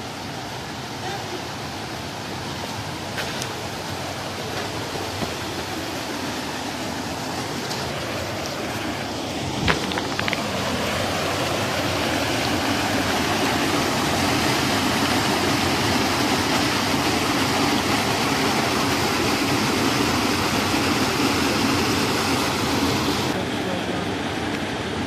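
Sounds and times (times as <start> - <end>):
waterfall and rushing stream: 0.0 - 25.0.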